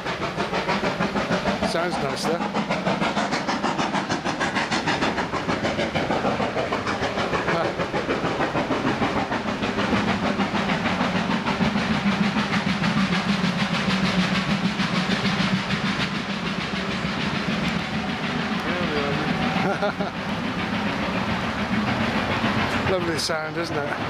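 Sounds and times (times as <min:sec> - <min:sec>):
steady steam hiss: 0:00.0 - 0:24.0
steam locomotive exhaust beating: 0:00.0 - 0:24.0.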